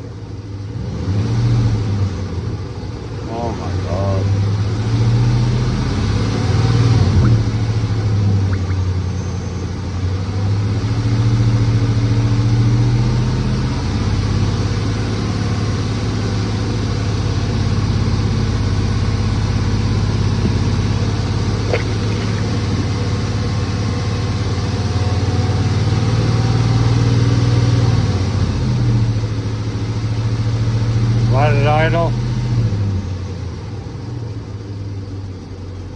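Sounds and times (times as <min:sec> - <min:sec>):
car engine running steadily: 0:00.0 - 0:35.9.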